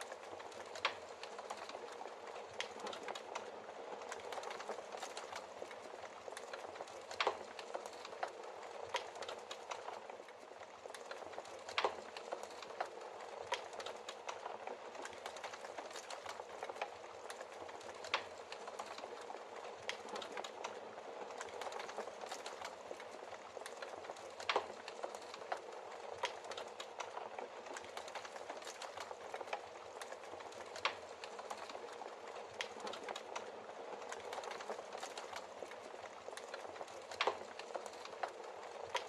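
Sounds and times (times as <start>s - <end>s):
logs crackling and popping: 0.0s - 39.0s.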